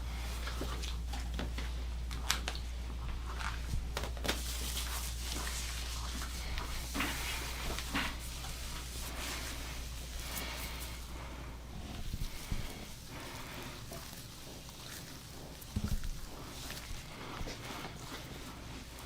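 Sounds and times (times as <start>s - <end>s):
soft rustling: 0.0s - 19.0s
steady low hum: 0.0s - 19.0s.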